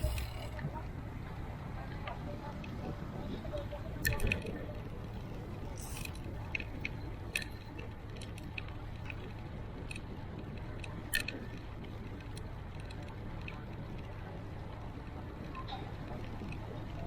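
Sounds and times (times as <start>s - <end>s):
bicycle clicks and rattles: 0.0s - 0.9s, 3.9s - 17.0s
rumble of wind and tyres: 0.0s - 17.0s.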